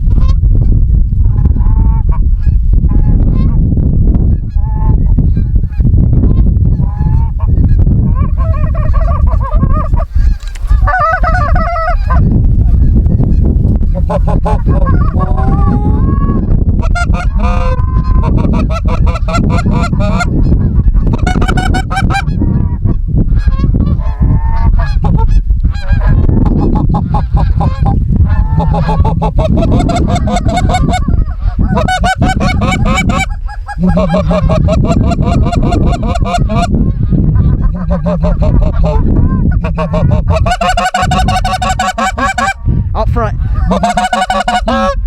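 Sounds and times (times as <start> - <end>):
geese honking and clucking: 1.2 - 42.8, 43.4 - 45.0.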